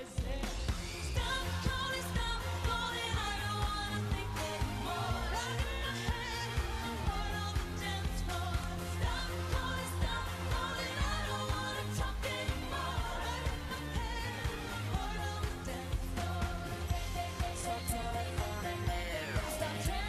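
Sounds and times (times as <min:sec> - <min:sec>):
live pop dance music: 0:00.0 - 0:20.0
person singing: 0:00.0 - 0:20.0.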